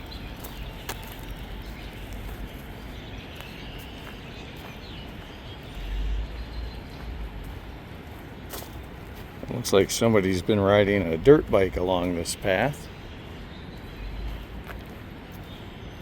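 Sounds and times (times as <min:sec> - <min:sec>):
footsteps on rough path: 0:00.0 - 0:16.0.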